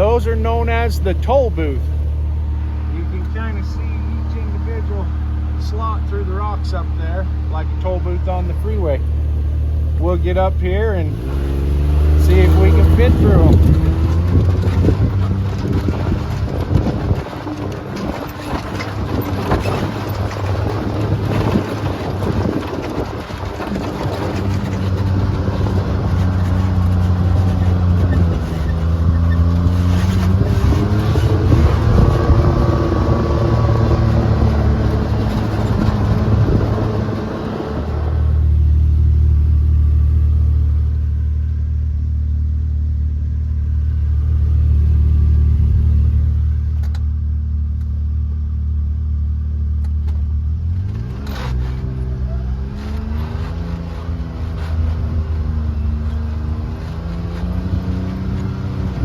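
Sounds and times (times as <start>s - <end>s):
rough mechanical noise: 0.0s - 41.6s, 50.7s - 59.0s
engine revving under load: 0.0s - 41.9s, 50.5s - 59.0s.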